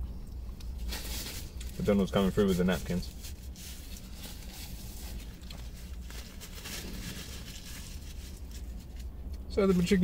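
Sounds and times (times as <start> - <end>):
low rumble in car cabin: 0.0 - 10.0
paper napkin rustling: 0.8 - 9.1.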